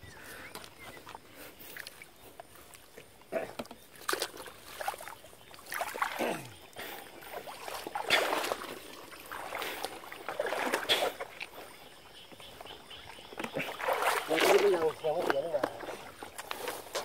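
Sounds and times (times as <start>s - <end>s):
shallow water sloshing: 0.2s - 17.0s.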